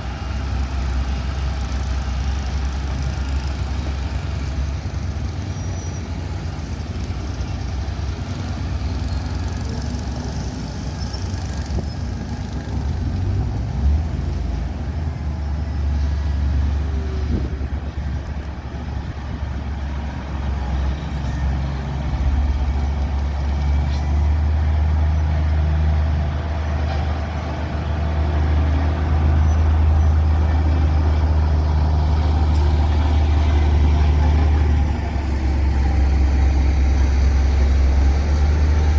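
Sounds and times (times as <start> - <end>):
heavy machine diesel engine droning: 0.0 - 38.9.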